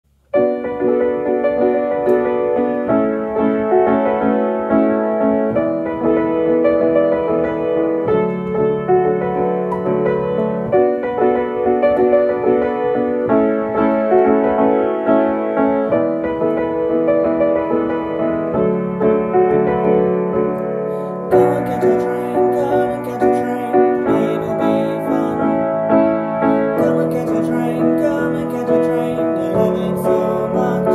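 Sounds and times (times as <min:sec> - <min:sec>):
piano keyboard chords: 0:00.1 - 0:30.9.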